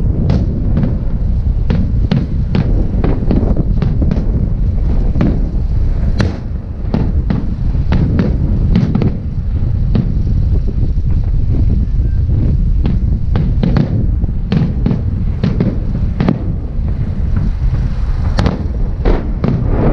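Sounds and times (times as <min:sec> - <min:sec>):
fireworks bangs: 0:00.0 - 0:19.9
steady low rumble: 0:00.0 - 0:19.9.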